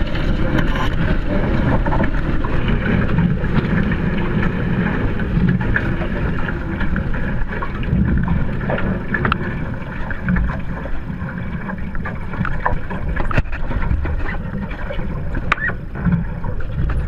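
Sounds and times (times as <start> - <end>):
water rushing along hulls: 0.0 - 17.0
wind buffeting microphone: 0.0 - 17.0.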